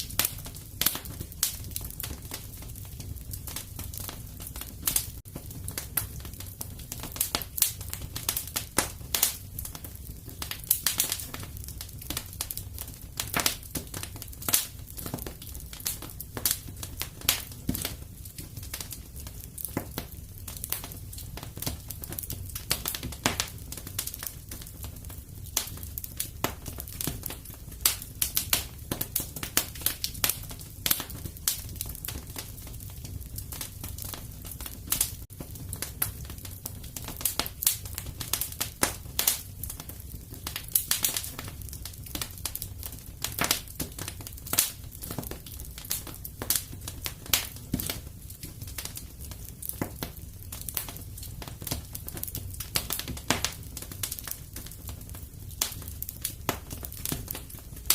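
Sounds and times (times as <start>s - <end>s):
fireplace fire crackling: 0.0s - 57.9s.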